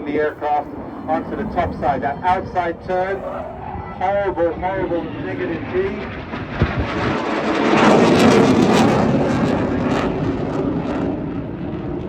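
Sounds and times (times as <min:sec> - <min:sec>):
jet flying overhead: 0:00.0 - 0:12.0.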